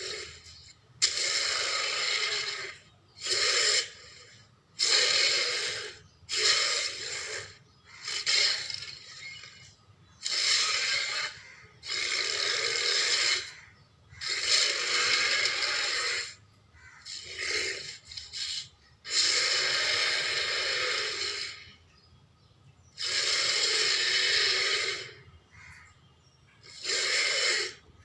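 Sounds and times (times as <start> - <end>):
rough breathy dinosaur calls: 0.0 - 28.0.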